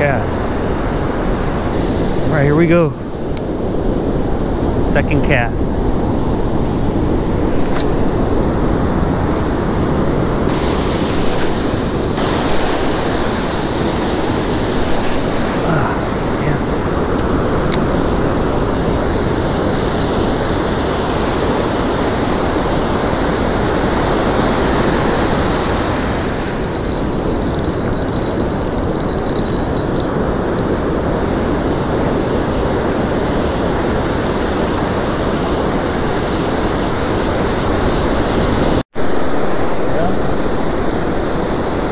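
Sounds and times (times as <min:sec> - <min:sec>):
waves breaking on beach: 0:00.0 - 0:41.9
wind rumbling on microphone: 0:00.0 - 0:41.9.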